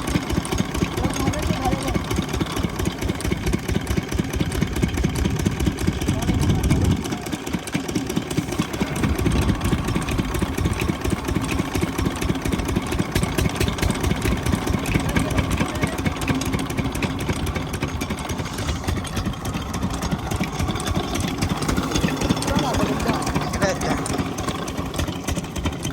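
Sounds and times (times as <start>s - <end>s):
diesel engine chugging: 0.0s - 25.9s.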